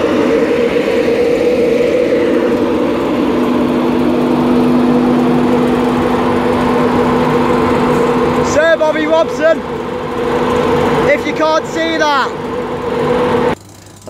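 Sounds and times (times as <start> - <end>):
locomotive electric hum: 0.0 - 14.0.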